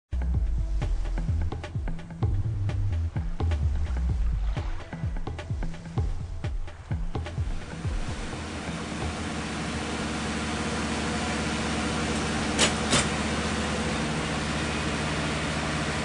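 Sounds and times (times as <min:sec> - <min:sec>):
engine-room machinery drone: 0:00.2 - 0:16.0.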